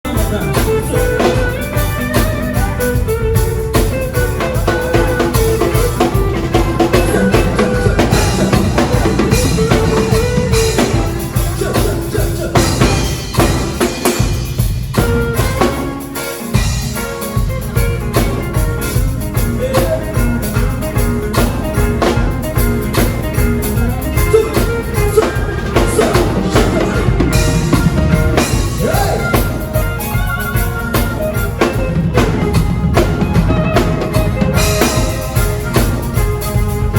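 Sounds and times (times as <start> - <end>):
drum kit beat: 0.0 - 36.9
live band playing: 0.0 - 36.9.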